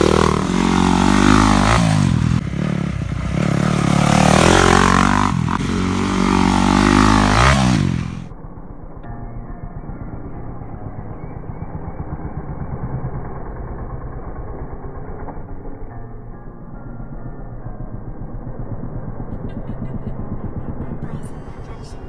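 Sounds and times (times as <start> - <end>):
dirt bike engine revving: 0.0 - 9.0, 9.7 - 22.0.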